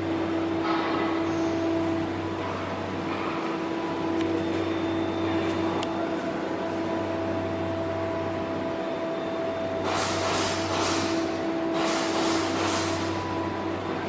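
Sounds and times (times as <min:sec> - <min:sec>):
diesel generator engine drone: 0:00.0 - 0:14.0.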